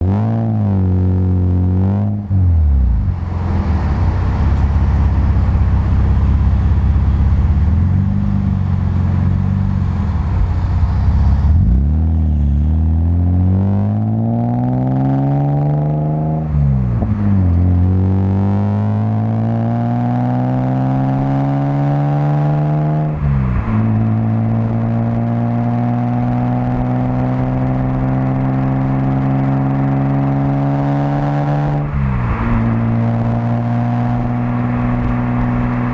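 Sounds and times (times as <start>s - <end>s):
car exhaust rumbling: 0.0s - 35.9s.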